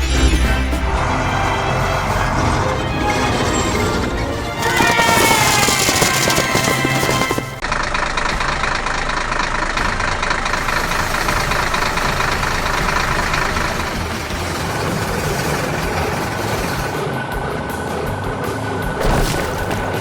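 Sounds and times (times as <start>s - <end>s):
truck engine running with pulsing: 0.1s - 20.0s.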